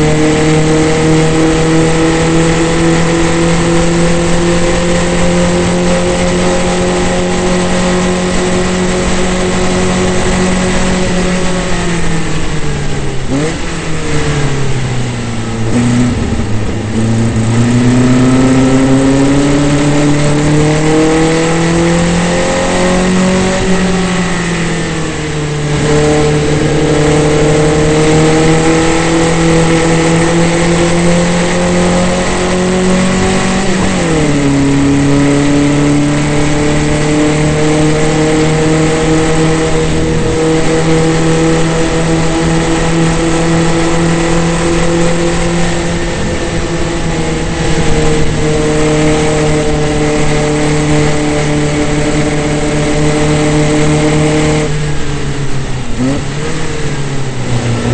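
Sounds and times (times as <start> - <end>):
race car engine at full throttle: 0.0 - 57.9.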